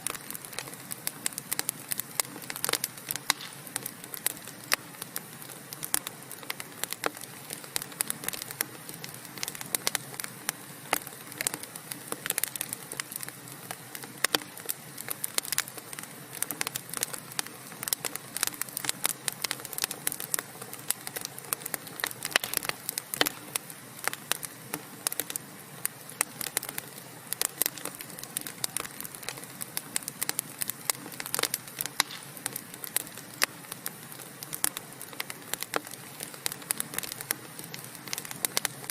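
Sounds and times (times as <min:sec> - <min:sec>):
logs crackling and popping: 0:00.0 - 0:38.9
low hiss of flame: 0:00.0 - 0:38.9.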